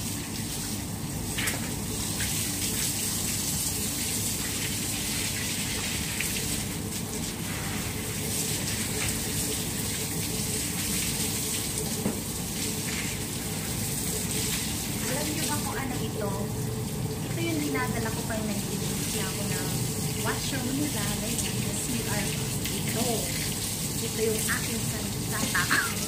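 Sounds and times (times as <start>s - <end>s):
water running from a hose: 0.0s - 26.0s.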